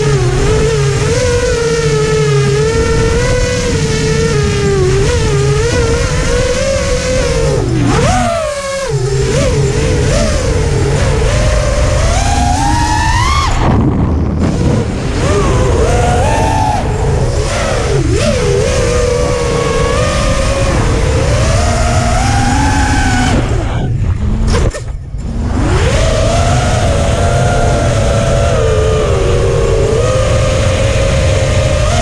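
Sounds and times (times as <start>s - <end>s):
drone motors whining: 0.0s - 32.0s
low wind rumble: 0.0s - 32.0s.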